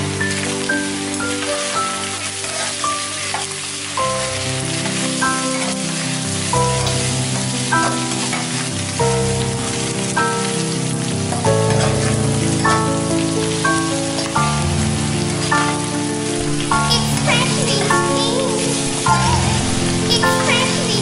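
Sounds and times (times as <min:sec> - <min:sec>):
meat and vegetables sizzling in pan: 0:00.0 - 0:21.0.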